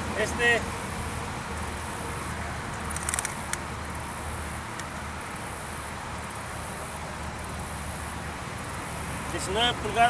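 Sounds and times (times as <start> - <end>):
insects chirring: 0.4 - 10.0.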